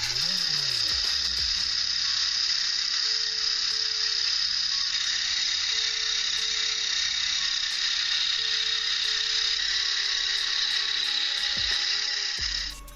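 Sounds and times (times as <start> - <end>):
electric motor whirring: 0.0 - 12.9.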